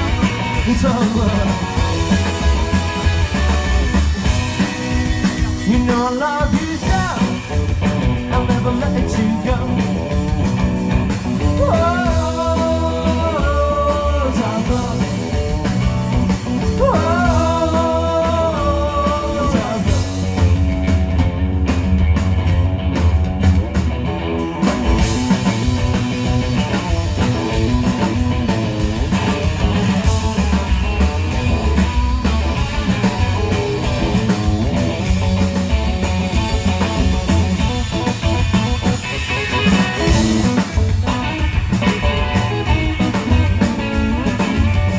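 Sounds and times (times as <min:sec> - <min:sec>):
drums: 0:00.0 - 0:44.9
electric guitar: 0:00.0 - 0:44.9
upright double bass: 0:00.0 - 0:44.9.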